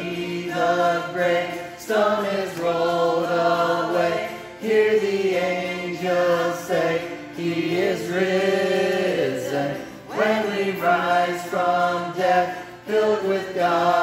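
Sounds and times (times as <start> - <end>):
person singing a hymn: 0.0 - 14.0.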